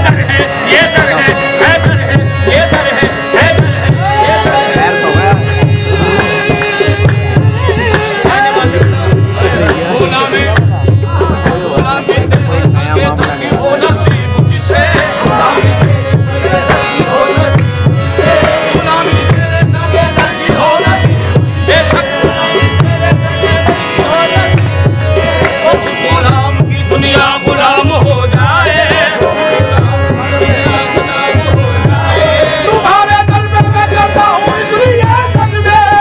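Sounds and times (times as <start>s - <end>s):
hand drum beating: 0.0s - 36.0s
harmoniums: 0.0s - 36.0s
male voices singing: 0.0s - 36.0s.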